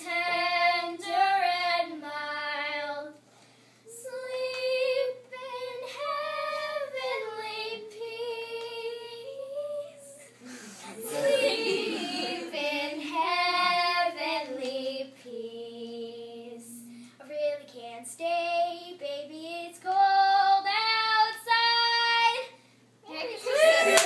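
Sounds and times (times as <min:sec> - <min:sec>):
girls singing unaccompanied: 0:00.0 - 0:03.2, 0:03.9 - 0:22.5.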